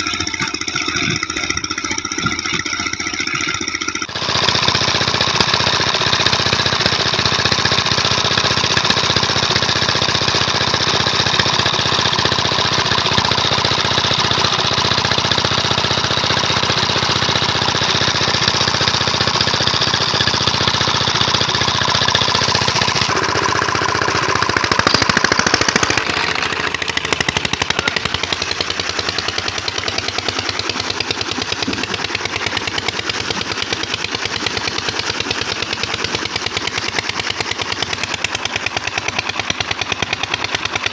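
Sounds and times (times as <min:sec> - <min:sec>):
engine running with rapid knock: 0:00.0 - 0:40.9.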